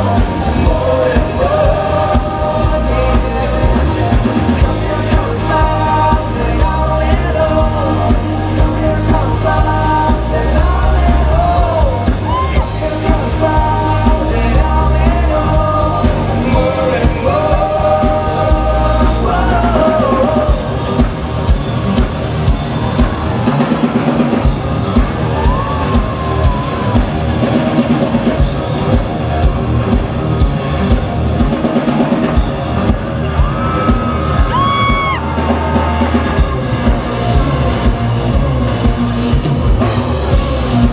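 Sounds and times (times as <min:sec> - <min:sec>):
drums beating: 0:00.0 - 0:40.9
live rock band: 0:00.0 - 0:40.9.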